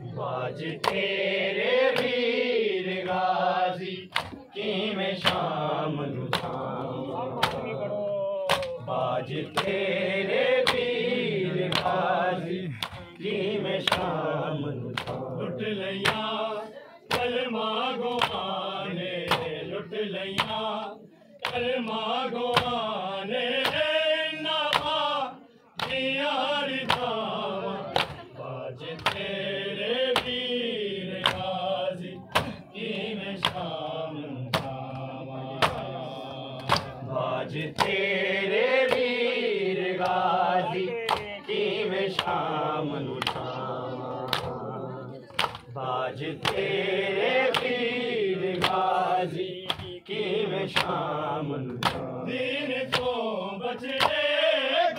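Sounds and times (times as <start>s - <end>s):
men chanting: 0.0s - 54.9s.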